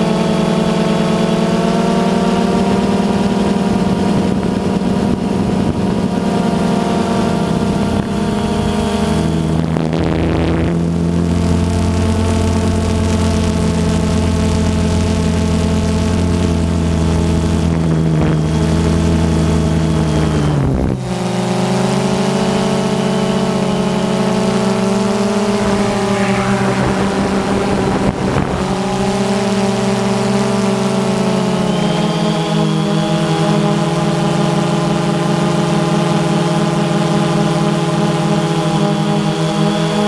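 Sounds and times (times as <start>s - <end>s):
model aircraft motor whine: 0.0s - 40.0s.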